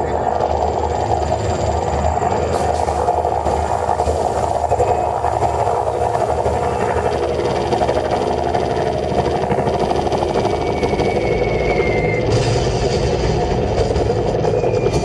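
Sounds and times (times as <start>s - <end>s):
loud engine drone: 0.0s - 15.0s
low rumble: 0.0s - 15.0s.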